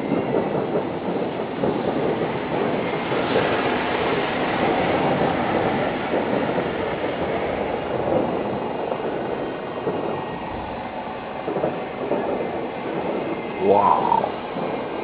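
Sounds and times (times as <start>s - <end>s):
distant fireworks rumble and crackle: 0.0s - 15.0s.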